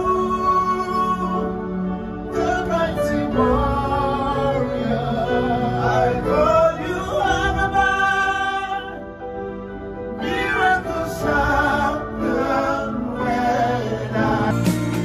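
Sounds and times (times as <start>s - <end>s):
man singing gospel: 0.0s - 9.1s, 10.2s - 15.0s
piano accompaniment: 0.0s - 15.0s.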